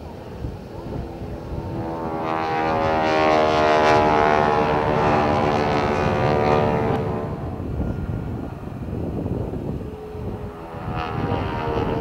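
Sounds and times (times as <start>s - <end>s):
helicopter engines and rotor: 0.0s - 12.0s.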